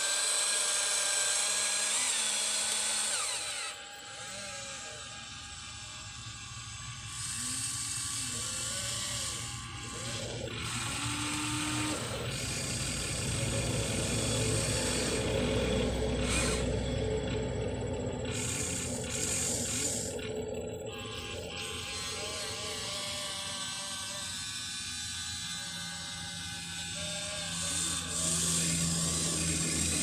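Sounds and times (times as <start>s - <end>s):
toy excavator motors whining: 0.0s - 30.0s.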